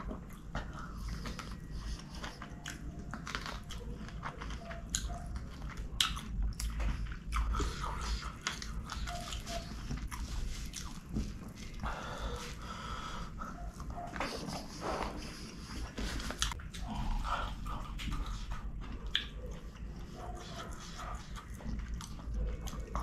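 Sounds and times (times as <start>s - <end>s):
chewing food with mouth clicks: 0.0s - 12.6s, 13.4s - 23.0s.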